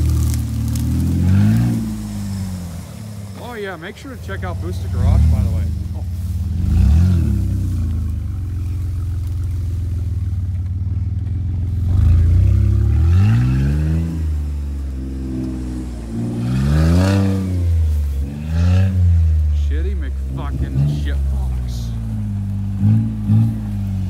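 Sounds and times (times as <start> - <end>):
car engine running and revving: 0.0 - 24.0.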